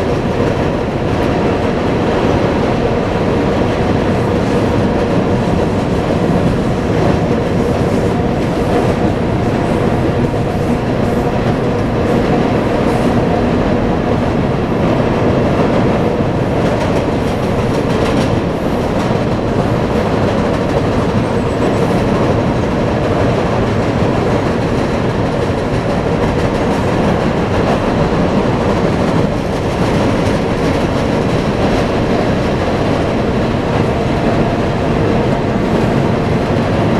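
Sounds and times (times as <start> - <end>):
freight train rumbling over bridge: 0.0 - 36.9.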